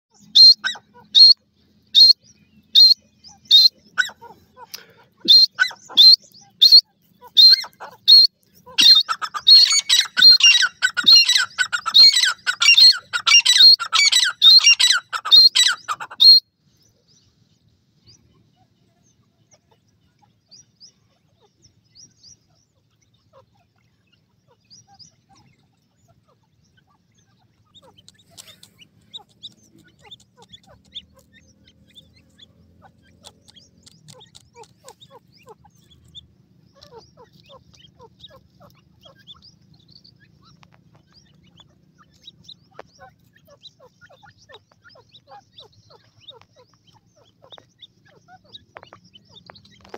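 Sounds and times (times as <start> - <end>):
francolin calling: 0.1 - 16.4, 20.5 - 49.9
faint bird chirps: 0.1 - 49.9.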